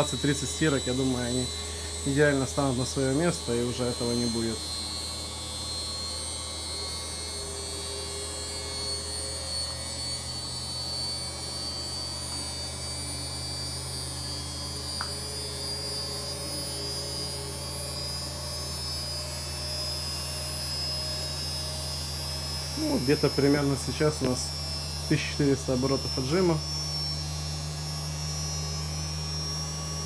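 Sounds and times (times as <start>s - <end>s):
high motor whistle: 0.0s - 30.0s.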